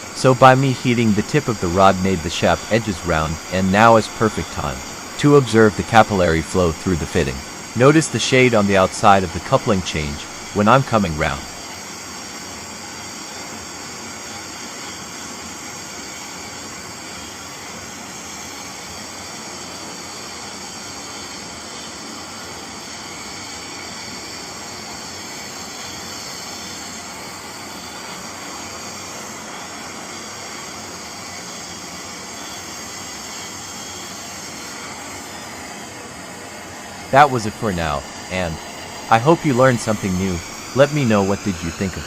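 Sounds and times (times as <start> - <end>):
torch flame hissing: 0.0 - 42.0.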